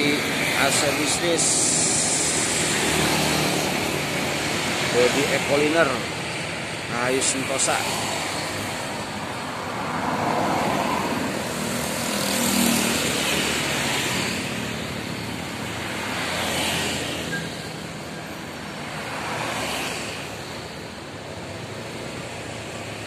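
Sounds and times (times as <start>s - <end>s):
car passing: 0.0s - 17.6s, 18.6s - 23.0s
motorcycles passing: 0.0s - 23.0s.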